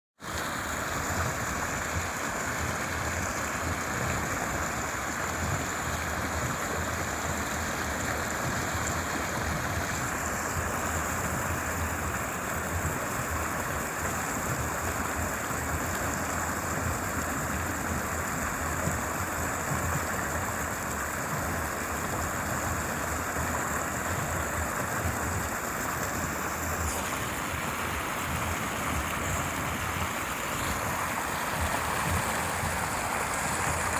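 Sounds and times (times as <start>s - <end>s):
stream water babbling: 0.2s - 33.9s.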